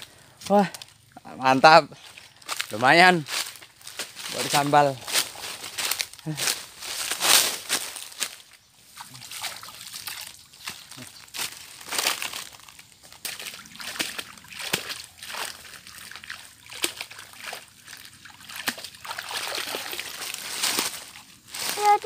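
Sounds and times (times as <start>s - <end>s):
pond water sloshing and splashing: 0.0s - 22.0s.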